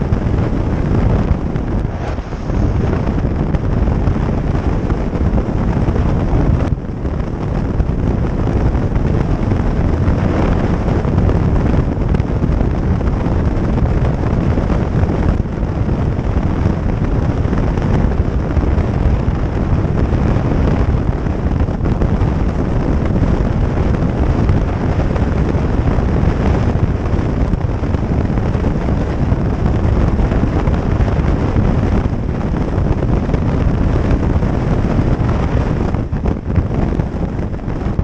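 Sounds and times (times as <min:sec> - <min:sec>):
road and engine noise: 0:00.0 - 0:38.0
wind rushing on microphone: 0:00.0 - 0:38.0.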